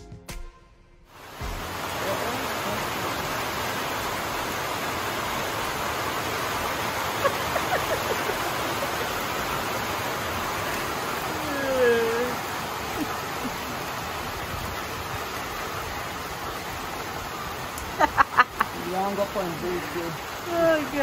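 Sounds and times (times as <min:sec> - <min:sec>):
heavy rain hissing: 0:01.1 - 0:21.0.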